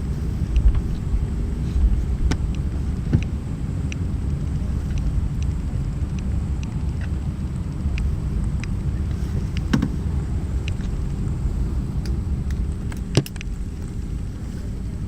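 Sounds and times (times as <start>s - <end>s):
airplane cabin rumble: 0.0s - 15.0s
faint clicks and rattles: 0.0s - 15.0s.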